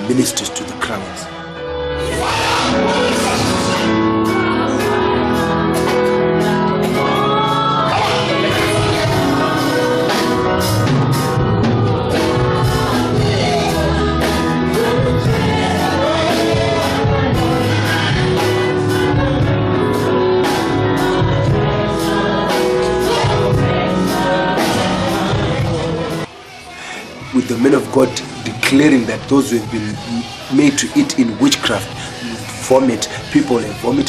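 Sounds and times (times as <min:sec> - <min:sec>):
gospel group singing over a beat: 0:00.0 - 0:34.0.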